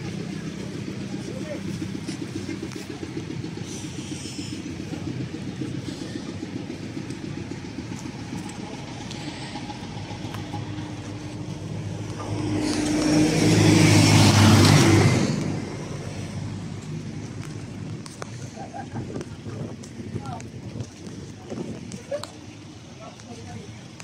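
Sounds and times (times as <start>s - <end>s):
vehicle passing close by: 0.0s - 20.4s
traffic engine hum: 0.0s - 24.0s.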